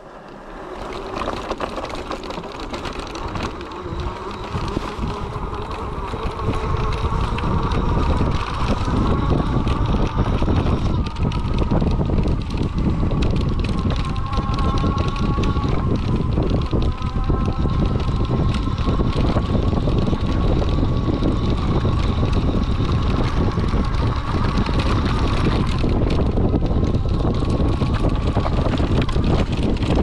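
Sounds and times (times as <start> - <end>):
tyres rumbling on dirt track: 0.0 - 30.0
electric motor whining: 0.4 - 30.0.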